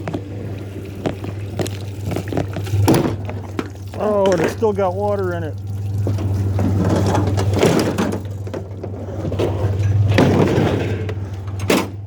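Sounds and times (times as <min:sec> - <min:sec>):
low engine hum: 0:00.0 - 0:12.0
dishwasher rattling and scraping: 0:00.7 - 0:05.0, 0:05.8 - 0:12.0.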